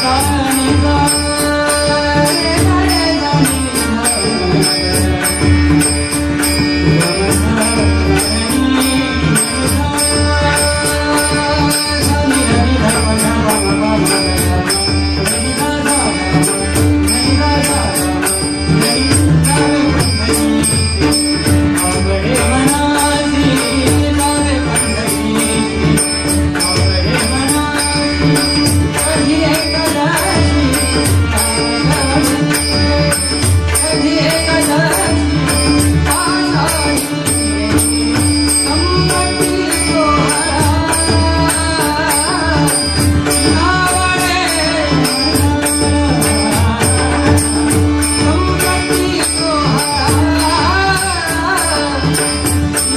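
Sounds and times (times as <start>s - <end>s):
pulsing percussion beat: 0.0s - 52.9s.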